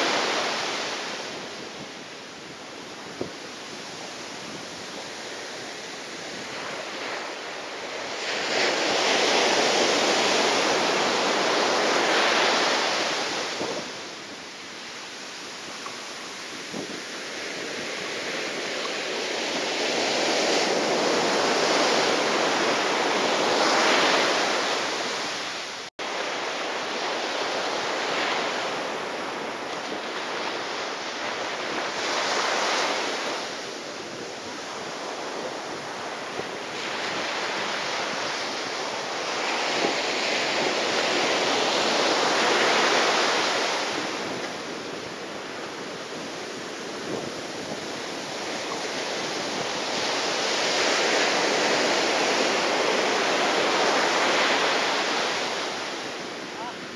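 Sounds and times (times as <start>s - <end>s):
rushing surf: 0.0s - 56.9s
strong gusty wind: 0.0s - 56.9s.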